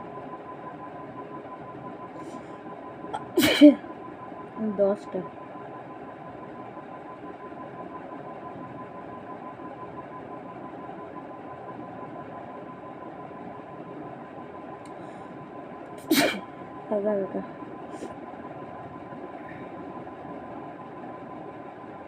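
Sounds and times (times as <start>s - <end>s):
mechanical hum with thin whine: 0.0s - 22.0s.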